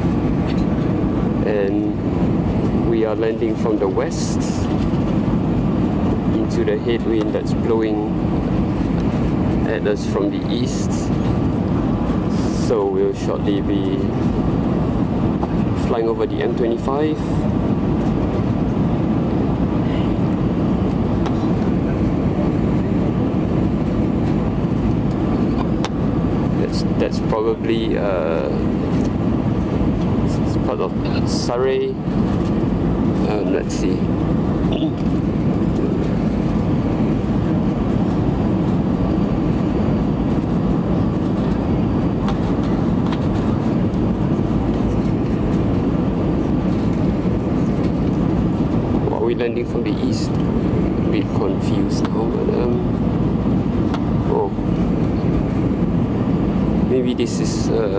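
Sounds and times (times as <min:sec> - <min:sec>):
aircraft cabin engine rumble: 0:00.0 - 0:57.9.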